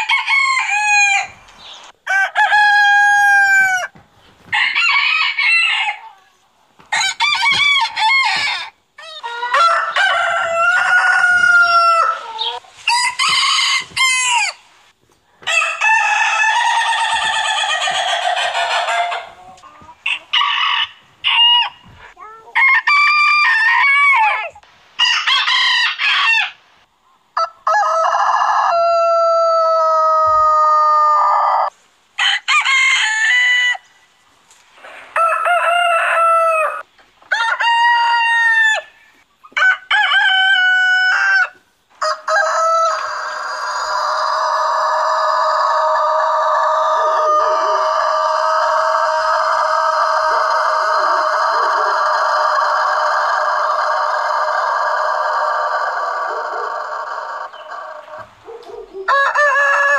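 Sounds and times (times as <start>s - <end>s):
roosters crowing: 0.0s - 6.2s, 6.8s - 14.7s, 15.4s - 26.6s, 27.4s - 34.0s, 34.8s - 59.9s.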